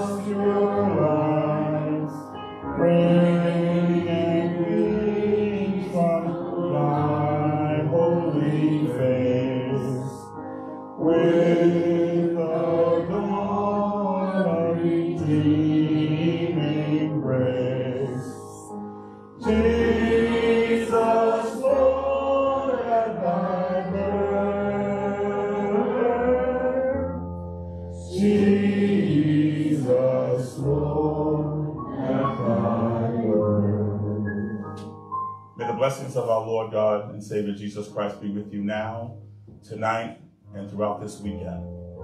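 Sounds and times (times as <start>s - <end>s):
slow sung melody: 0.0s - 42.0s.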